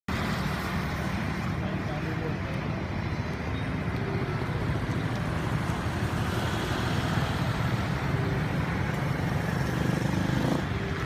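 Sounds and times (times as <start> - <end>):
motor vehicles rumbling: 0.1 - 11.0.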